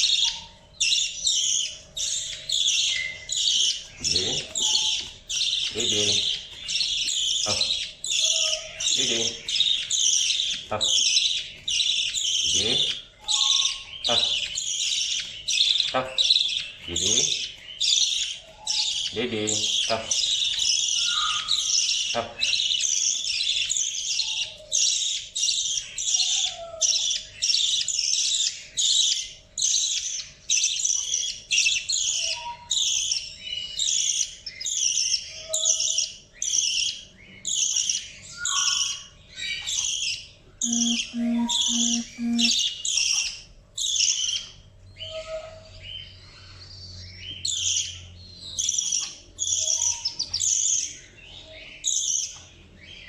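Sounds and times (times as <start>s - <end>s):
budgie chick chirping: 0.0s - 44.8s.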